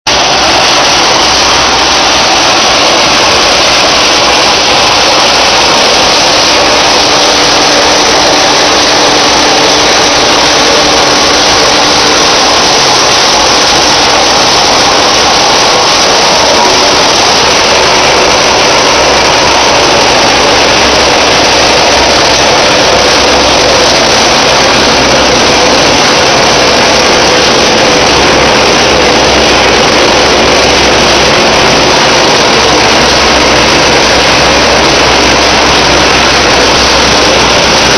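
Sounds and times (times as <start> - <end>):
recycling machinery din: 0.1 - 37.9.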